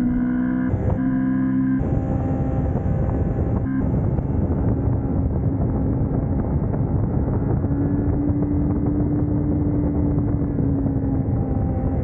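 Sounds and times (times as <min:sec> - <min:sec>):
motorcycle engine running: 0:00.0 - 0:12.0
rush of wind and road noise: 0:00.0 - 0:12.0.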